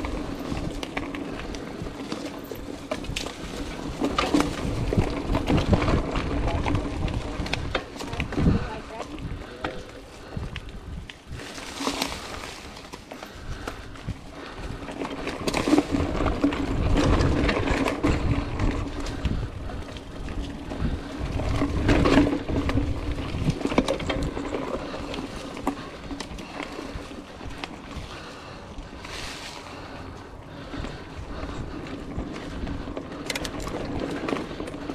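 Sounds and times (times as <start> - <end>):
bike rattling over bumps: 0.0 - 34.9
tyres rolling over dry leaves: 0.0 - 34.9
wind buffeting microphone: 0.0 - 34.9.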